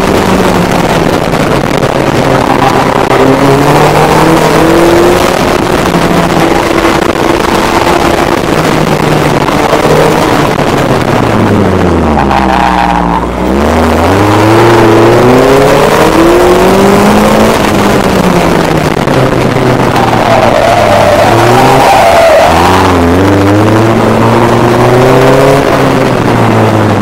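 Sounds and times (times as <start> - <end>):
car engine under hard driving: 0.0 - 27.0
wind and road noise: 0.0 - 27.0.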